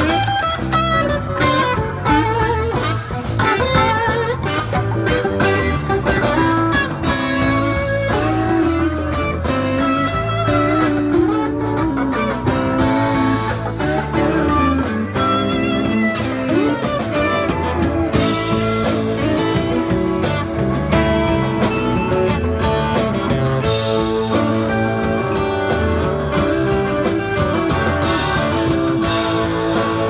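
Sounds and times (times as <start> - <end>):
bass guitar: 0.0 - 30.0
drum kit: 0.0 - 30.0
electric guitars: 0.0 - 30.0.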